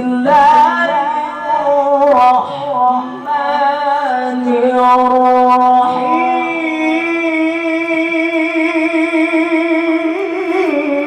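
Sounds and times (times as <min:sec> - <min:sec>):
man chanting recitation: 0:00.0 - 0:11.0.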